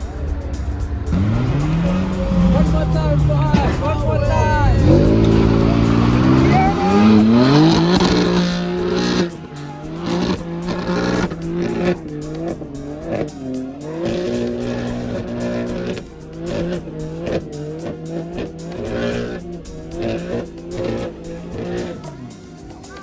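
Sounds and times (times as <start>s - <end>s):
background music with a beat: 0.0s - 23.0s
car engine: 0.0s - 23.0s.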